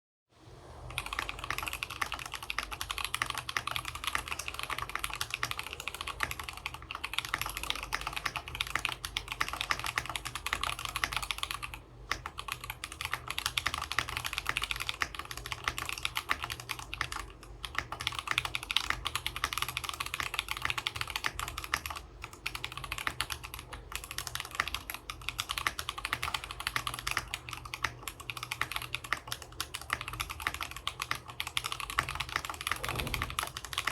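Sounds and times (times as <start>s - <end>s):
fast mechanical keyboard typing: 0.9s - 33.9s.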